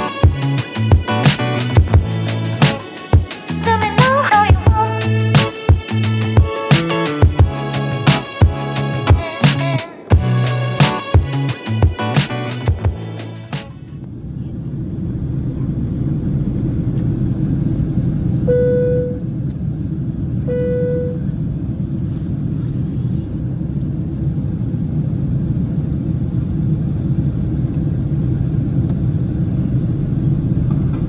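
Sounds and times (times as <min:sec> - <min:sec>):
aircraft cabin roar: 0:00.0 - 0:31.0.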